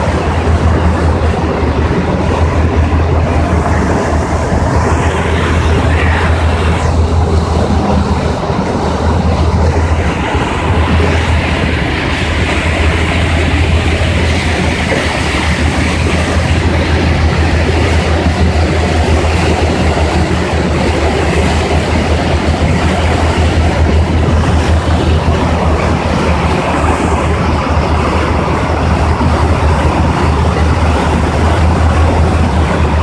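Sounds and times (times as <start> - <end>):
ferry engine droning: 0.0 - 33.0
water and wind rushing: 0.0 - 33.0.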